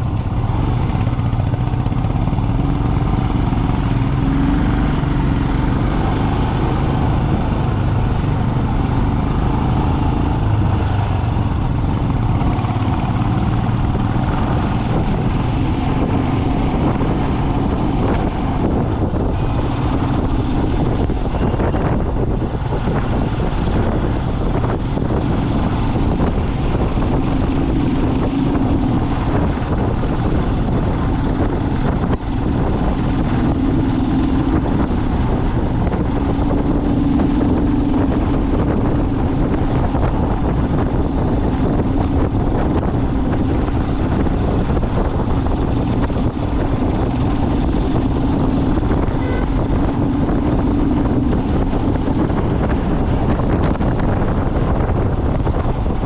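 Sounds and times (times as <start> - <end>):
vehicle engine drone: 0.0 - 56.0
wind and road noise: 0.0 - 56.0.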